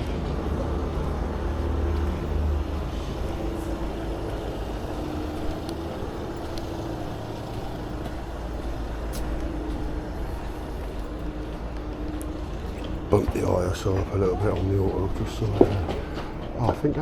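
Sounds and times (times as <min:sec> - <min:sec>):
engine running with low rumble: 0:00.0 - 0:17.0.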